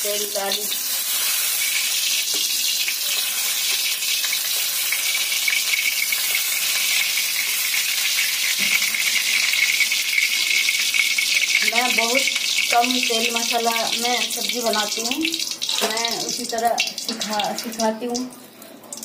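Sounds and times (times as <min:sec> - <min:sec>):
cooking oil sizzling: 0:00.0 - 0:19.0.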